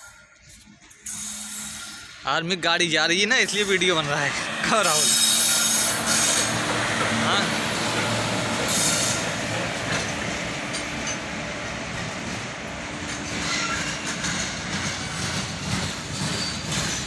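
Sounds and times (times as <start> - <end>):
train wheels rolling on track: 0.1 - 17.0.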